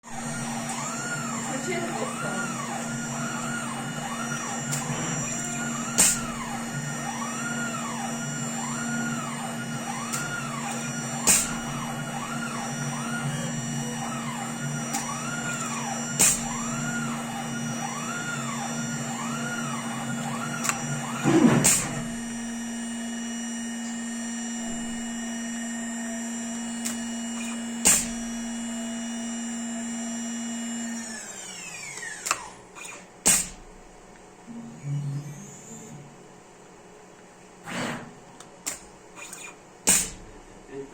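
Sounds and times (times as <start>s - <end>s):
motor whine rising and falling: 0.0s - 32.6s, 34.4s - 36.3s
steady motor hum: 0.0s - 40.9s.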